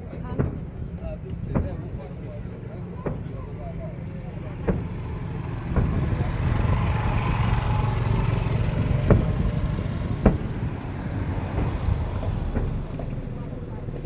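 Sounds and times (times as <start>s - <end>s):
fireworks rumbling: 0.0s - 14.0s
fireworks sharp cracks: 0.0s - 14.0s.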